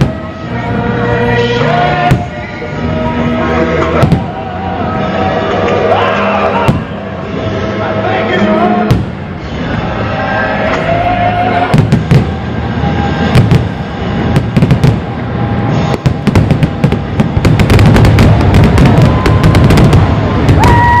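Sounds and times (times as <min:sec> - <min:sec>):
fireworks bangs and crackle: 0:00.0 - 0:07.5, 0:08.8 - 0:09.7, 0:11.6 - 0:21.0
background music: 0:00.0 - 0:21.0.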